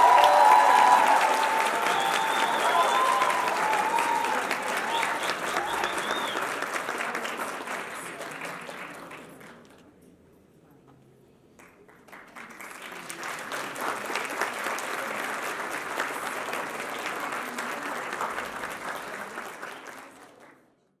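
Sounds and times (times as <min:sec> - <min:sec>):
audience applauding: 0:00.0 - 0:09.6, 0:11.6 - 0:20.6.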